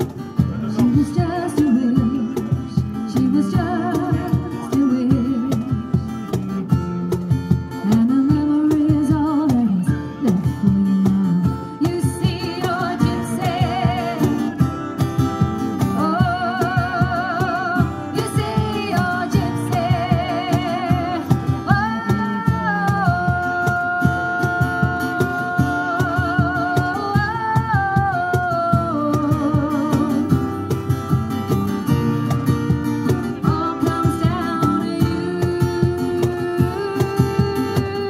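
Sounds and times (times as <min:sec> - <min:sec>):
cajon beat: 0:00.0 - 0:38.0
strummed acoustic guitar: 0:00.0 - 0:38.0
woman singing with vibrato: 0:00.7 - 0:06.0, 0:07.8 - 0:14.6, 0:15.8 - 0:30.4, 0:33.2 - 0:38.0.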